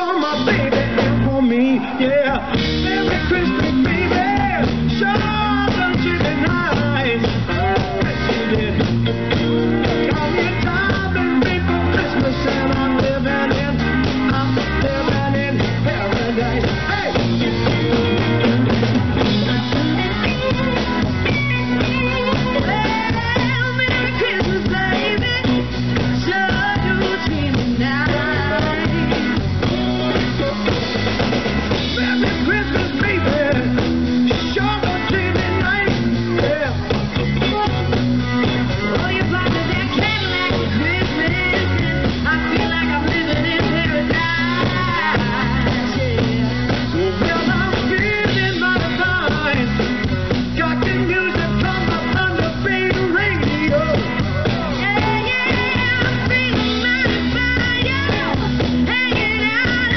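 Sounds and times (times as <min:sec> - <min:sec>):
blues-rock band playing: 0:00.0 - 0:59.9.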